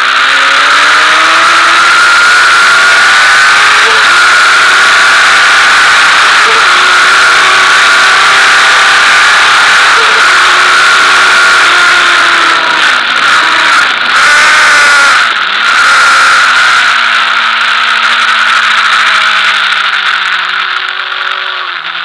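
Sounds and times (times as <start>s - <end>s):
motorcycle engine revving high: 0.0s - 22.0s.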